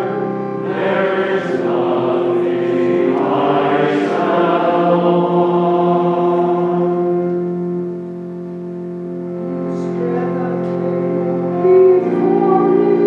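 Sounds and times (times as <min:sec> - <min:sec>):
voices singing a hymn: 0:00.0 - 0:07.9, 0:09.7 - 0:13.0
sustained held chords: 0:00.0 - 0:13.0.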